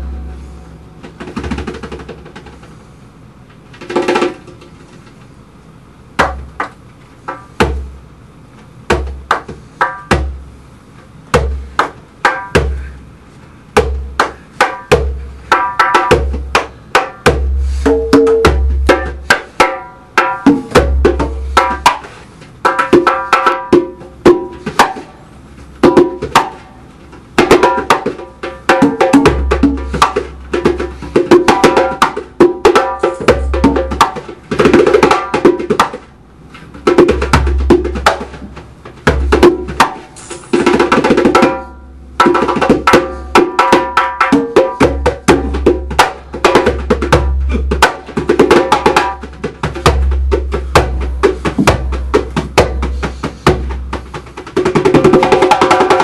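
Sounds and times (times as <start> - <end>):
hand drum bass strokes and slaps: 0.0 - 5.3, 6.2 - 56.0.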